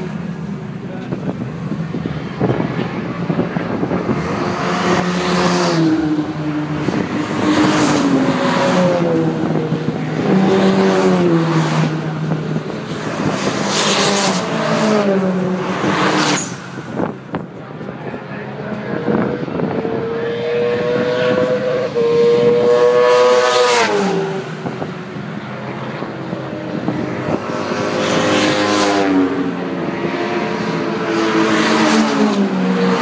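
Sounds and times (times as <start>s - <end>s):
race cars passing by: 0.0s - 33.0s.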